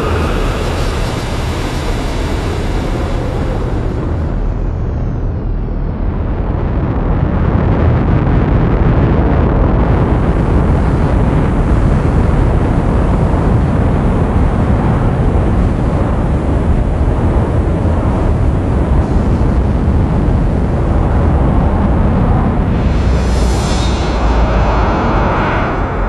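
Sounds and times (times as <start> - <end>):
low rumbling spaceship drone: 0.0 - 7.2, 9.8 - 26.0.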